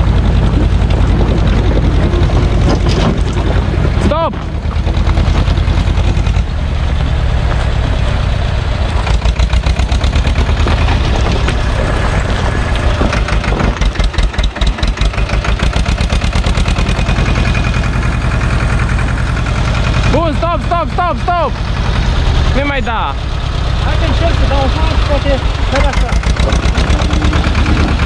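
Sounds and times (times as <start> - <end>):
tractor diesel engine chugging: 0.0 - 28.0.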